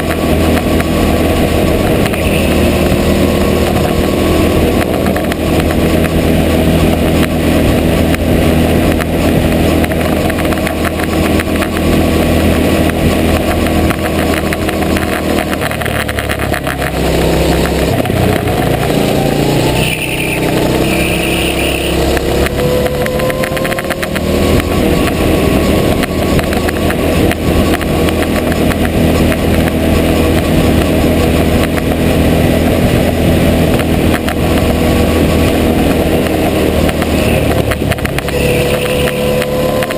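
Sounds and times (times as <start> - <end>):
go-kart engine at high revs: 0.0 - 39.9.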